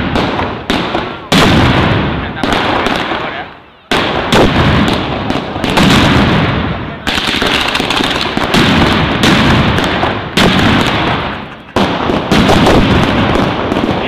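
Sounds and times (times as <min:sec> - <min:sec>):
firecrackers exploding: 0:00.0 - 0:14.0.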